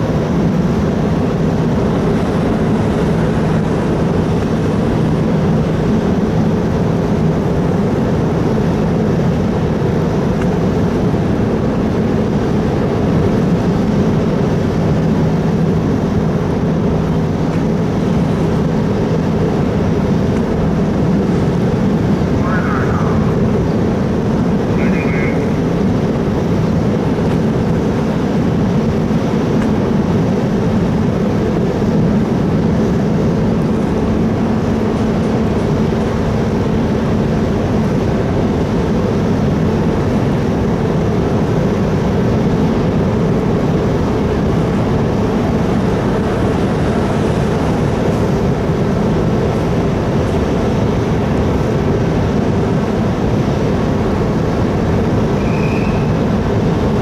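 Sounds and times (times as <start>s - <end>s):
ferry engines humming: 0.0s - 57.0s.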